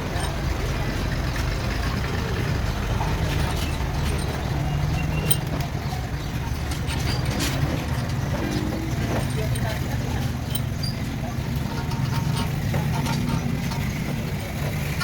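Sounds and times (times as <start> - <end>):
low engine-like rumble: 0.0 - 15.0.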